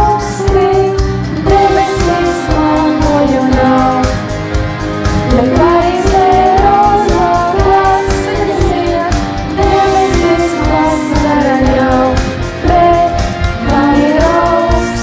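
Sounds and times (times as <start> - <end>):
girl singing: 0.0 - 4.2, 5.3 - 15.0
backing track with steady beat: 0.0 - 15.0.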